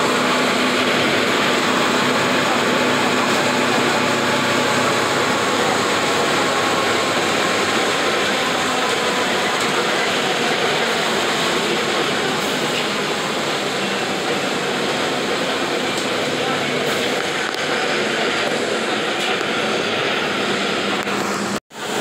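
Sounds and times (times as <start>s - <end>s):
bus engine running: 0.0s - 22.0s
tyres on a wet road: 0.0s - 22.0s.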